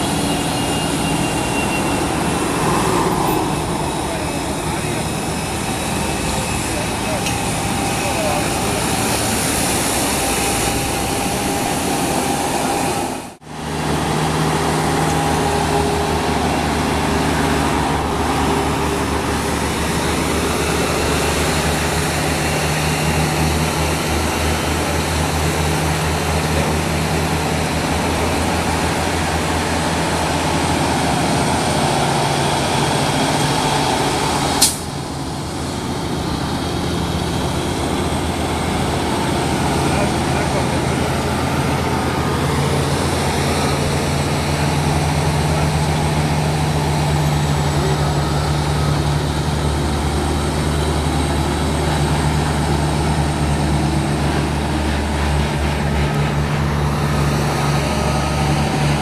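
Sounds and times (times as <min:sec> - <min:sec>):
truck engines droning: 0:00.0 - 0:59.0.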